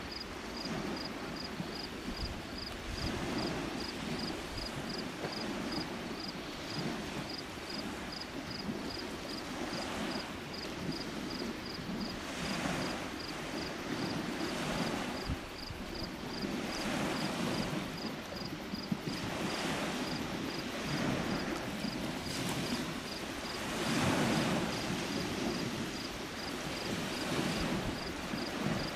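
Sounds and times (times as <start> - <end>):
waves washing onto shore: 0.0 - 28.9.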